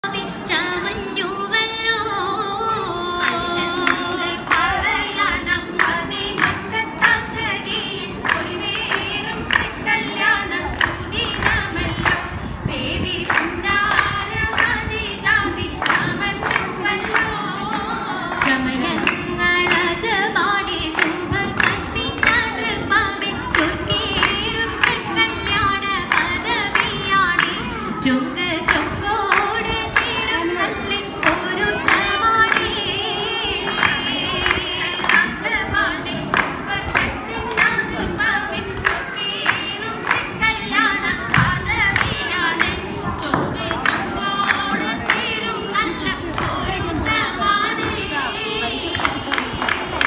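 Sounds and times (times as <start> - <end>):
group of voices singing: 0.0 - 50.0
hand claps: 3.2 - 12.3, 13.2 - 22.6, 23.4 - 27.6, 28.6 - 45.7, 48.9 - 50.0.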